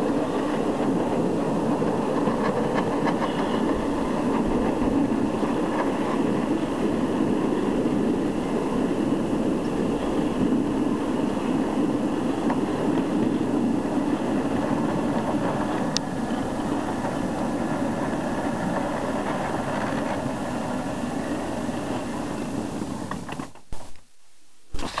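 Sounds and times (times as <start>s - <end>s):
small locomotive running: 0.0s - 23.6s
wheels rolling on rails: 0.0s - 24.0s.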